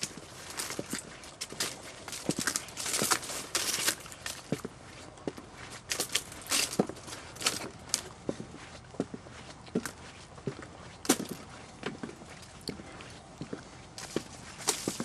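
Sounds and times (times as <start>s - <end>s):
footsteps on wooden planks: 0.0s - 15.0s.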